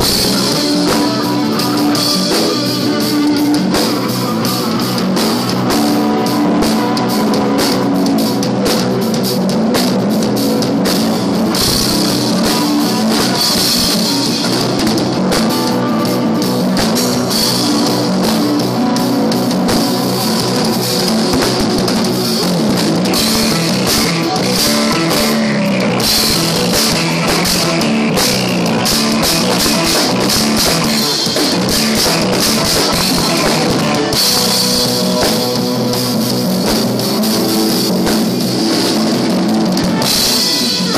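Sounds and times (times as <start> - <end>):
bass guitar: 0.0 - 40.9
drum kit playing: 0.0 - 40.9
electric guitar: 0.0 - 40.9.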